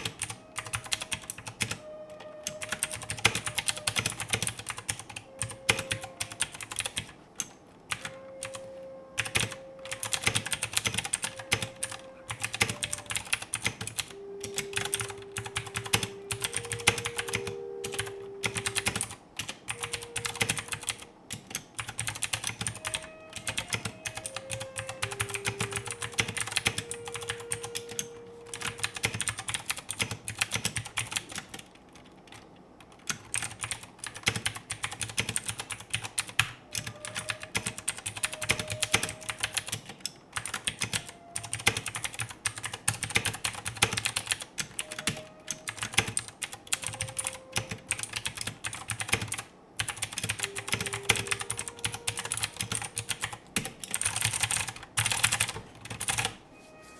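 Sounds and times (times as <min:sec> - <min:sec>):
mechanical keyboard typing: 0:00.0 - 0:56.4.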